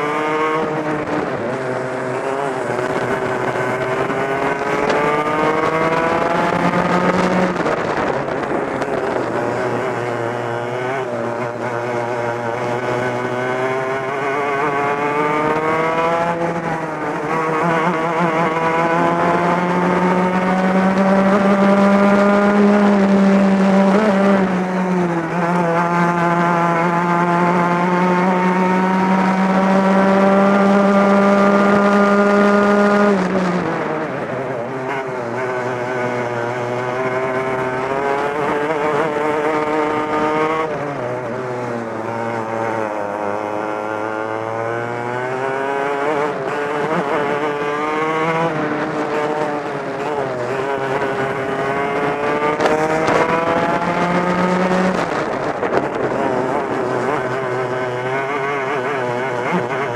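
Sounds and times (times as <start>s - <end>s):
kart engine revving hard: 0.0s - 59.9s.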